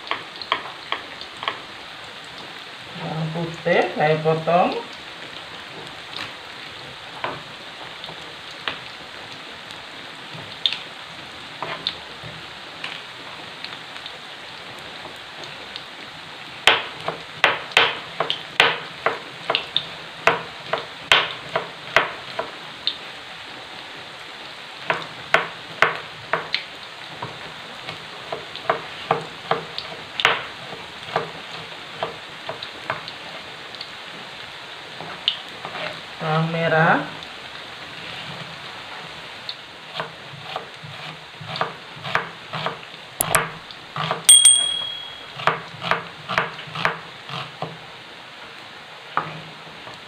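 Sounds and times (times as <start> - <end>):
frying sizzle in hot oil: 0.0 - 50.0.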